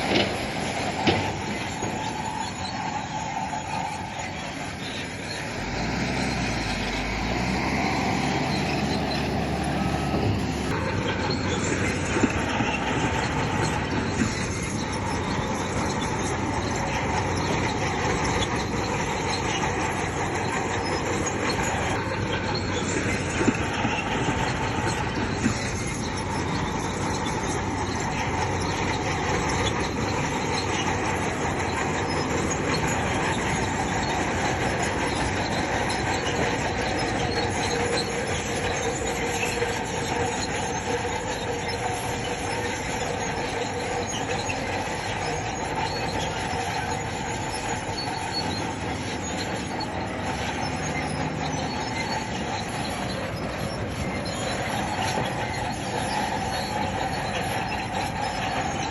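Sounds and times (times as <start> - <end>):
bulldozer diesel engine running: 0.0 - 58.9
steel tracks squealing and clanking: 0.0 - 58.9.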